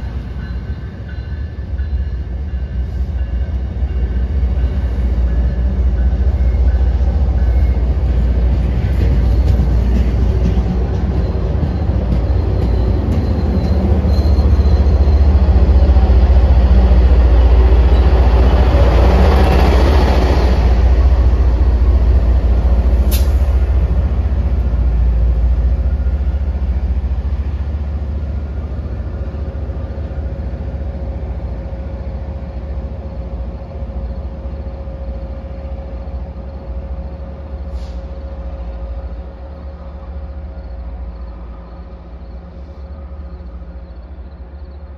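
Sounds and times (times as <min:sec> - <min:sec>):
diesel train pulling away: 0:00.0 - 0:44.9.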